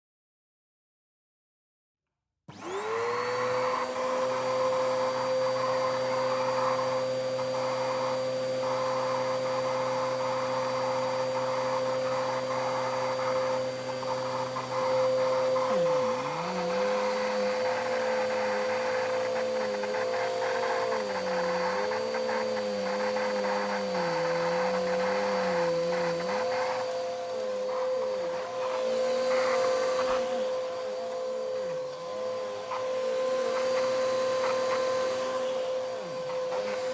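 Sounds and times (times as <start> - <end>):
vacuum cleaner running: 2.5 - 36.9.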